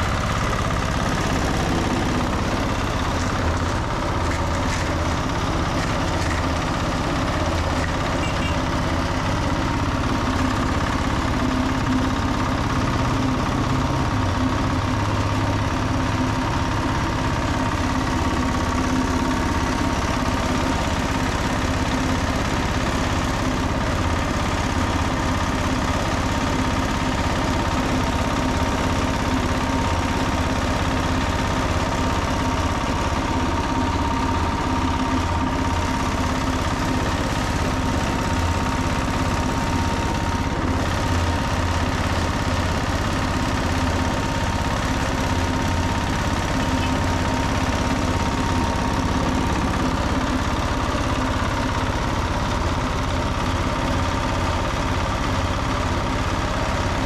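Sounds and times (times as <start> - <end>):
concrete mixer engine running: 0.0 - 57.0.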